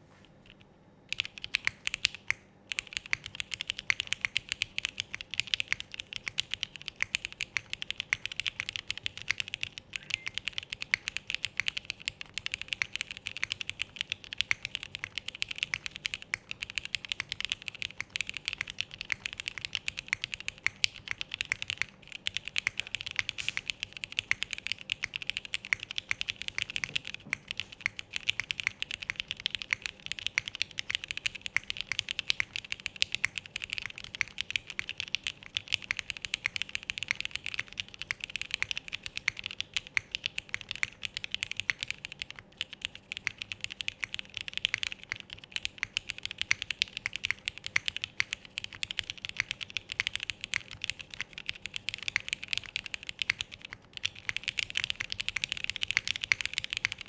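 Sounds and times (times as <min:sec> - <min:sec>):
mechanical keyboard typing: 0:00.5 - 0:57.0.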